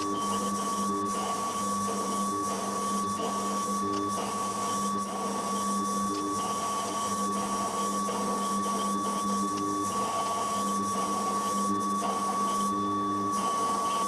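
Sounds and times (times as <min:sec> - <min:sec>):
machine tool high whine: 0:00.0 - 0:14.0.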